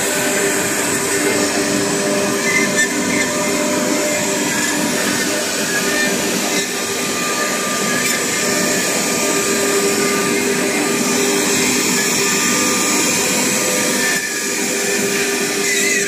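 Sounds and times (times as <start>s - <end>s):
router spindles whining: 0.0s - 16.0s.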